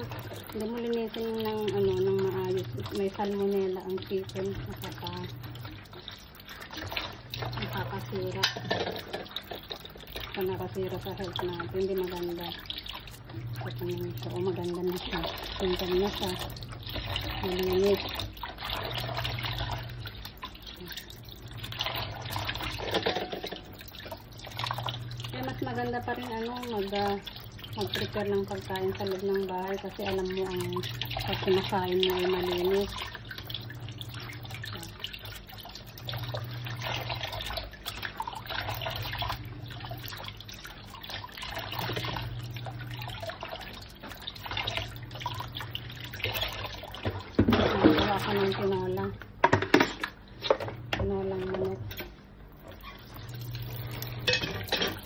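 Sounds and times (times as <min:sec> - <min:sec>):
tap water running into sink: 0:00.0 - 0:55.0
water splashing: 0:00.0 - 0:55.0.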